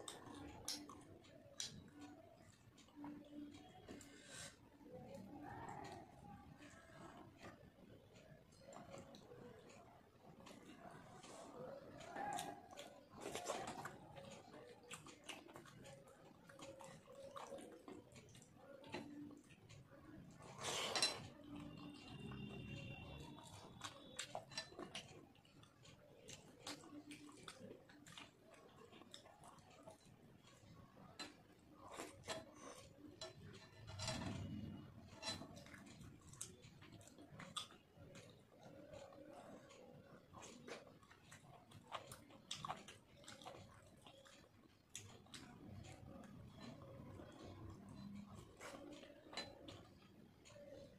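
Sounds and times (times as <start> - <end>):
wet mouthful eating noise: 0.0 - 50.9.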